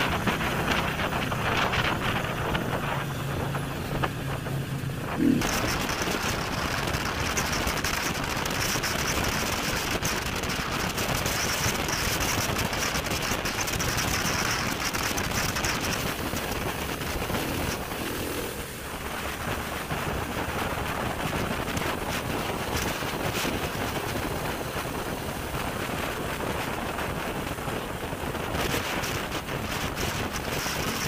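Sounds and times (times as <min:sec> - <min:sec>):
motorcycle engine: 0:00.0 - 0:28.0
road noise: 0:00.0 - 0:31.0
wind rushing over microphone: 0:00.0 - 0:31.0.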